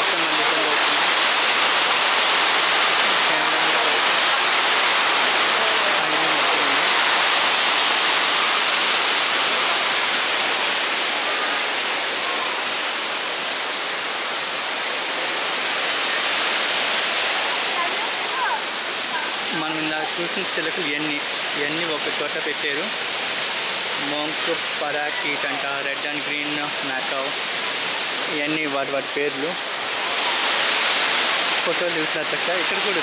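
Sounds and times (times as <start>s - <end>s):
water pouring from waterfall fountain: 0.0s - 33.0s.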